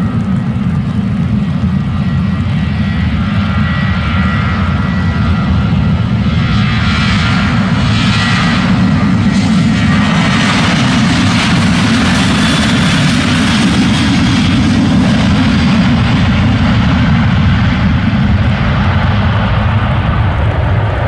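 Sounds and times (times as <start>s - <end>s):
jet engine high roar: 0.0s - 21.0s
jet engines deep rumble: 0.0s - 21.0s.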